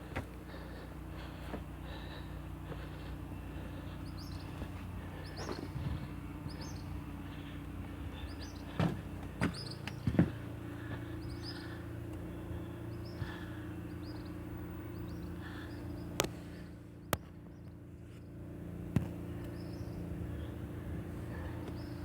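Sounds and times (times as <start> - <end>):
small birds chirping: 0.0 - 22.0
steady mechanical hum: 0.0 - 22.0.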